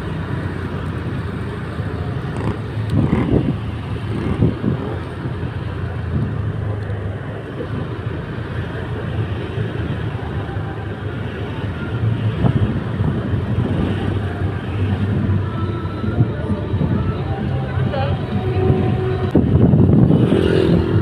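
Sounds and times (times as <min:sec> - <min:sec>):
motorcycle engine hum: 0:00.0 - 0:21.0
road and traffic noise: 0:00.0 - 0:21.0.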